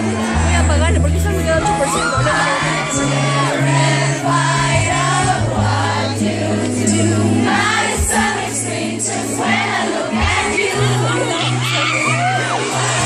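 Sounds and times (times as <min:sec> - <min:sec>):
crowd singing along: 0:00.0 - 0:13.0
live pop music over speakers: 0:00.0 - 0:13.0.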